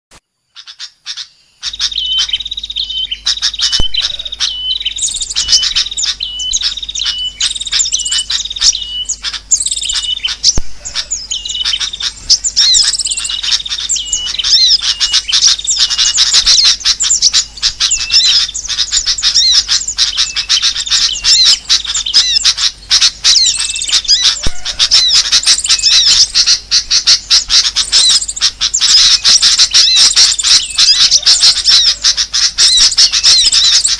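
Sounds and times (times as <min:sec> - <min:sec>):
steady low hum: 0:00.3 - 0:33.9
small birds chirping and whistling: 0:00.4 - 0:33.9.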